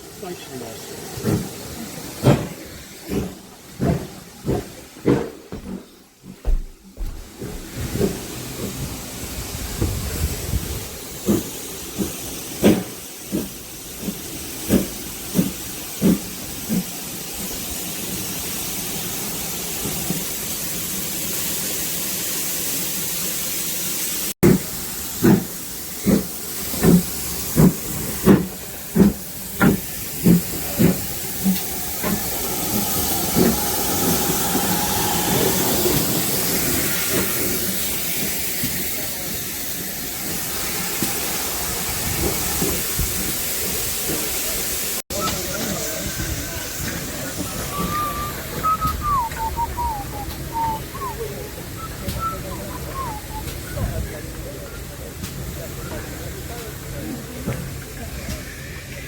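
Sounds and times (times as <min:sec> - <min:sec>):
hiss of steam: 0:00.0 - 0:05.8, 0:06.4 - 0:59.0
steam locomotive exhaust chuffing: 0:00.0 - 0:59.0.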